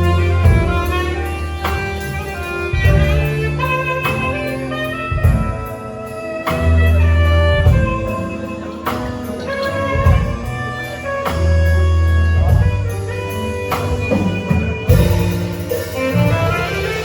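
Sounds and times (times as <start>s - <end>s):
jazzy band music: 0.0s - 17.0s.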